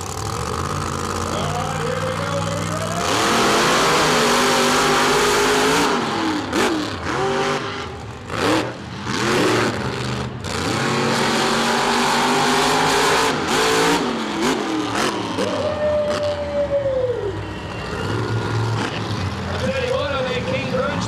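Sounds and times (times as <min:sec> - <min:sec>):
monster truck engines racing: 0:00.0 - 0:21.0.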